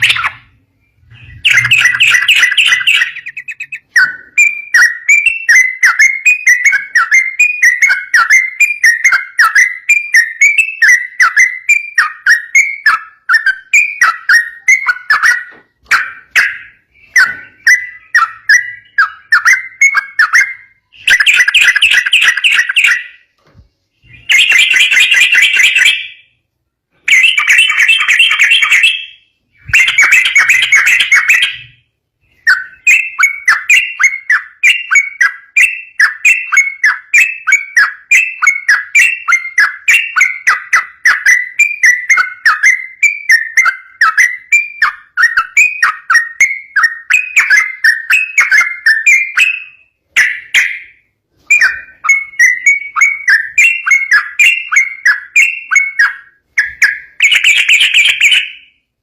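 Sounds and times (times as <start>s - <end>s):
bulbul singing: 0.0s - 58.9s.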